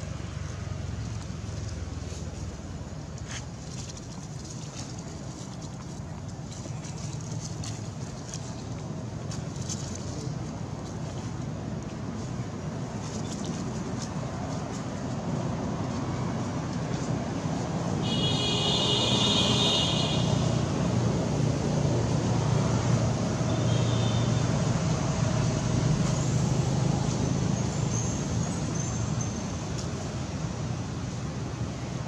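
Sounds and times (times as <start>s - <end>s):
road traffic drone: 0.0s - 32.0s.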